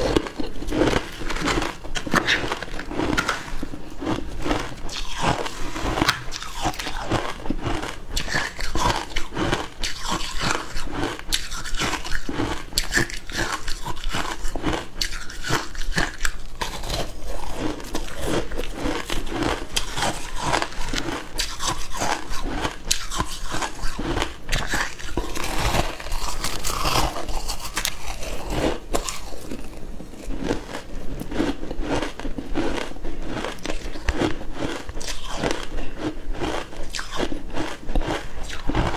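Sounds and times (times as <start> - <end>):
crunching frozen ice: 0.0 - 38.9.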